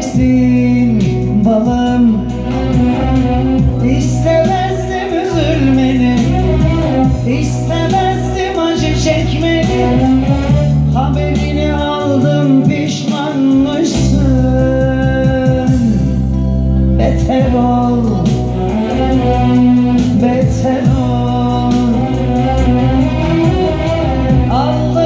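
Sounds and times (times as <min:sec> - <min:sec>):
man singing ornamented melody: 0:00.0 - 0:16.3, 0:16.9 - 0:25.0
keyboard accompaniment with bass: 0:00.0 - 0:25.0.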